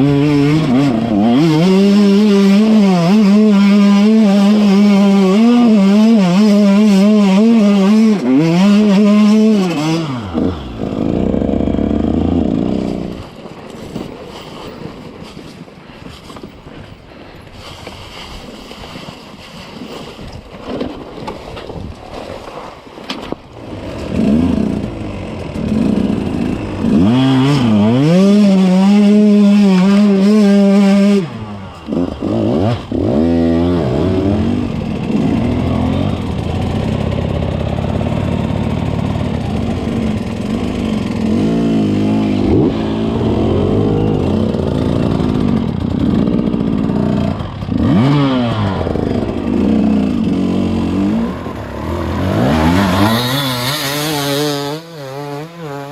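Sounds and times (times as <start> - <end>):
dirt bike engine revving: 0.0 - 13.3, 23.6 - 55.9.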